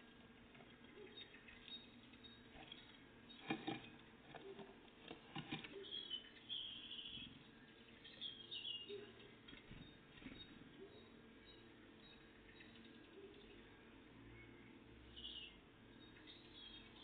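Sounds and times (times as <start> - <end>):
songbirds calling: 0.0 - 17.0.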